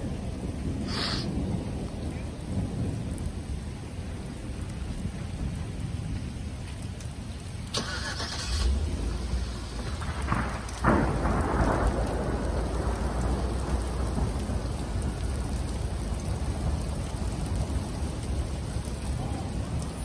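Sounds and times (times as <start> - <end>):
thunder clap and rumble: 0.0 - 7.7, 8.6 - 20.0
steady rain: 0.0 - 20.0.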